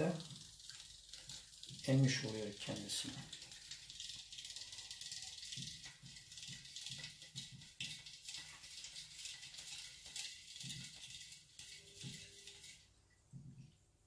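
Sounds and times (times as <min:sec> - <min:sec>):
whisk scraping metal bowl: 0:00.0 - 0:13.0.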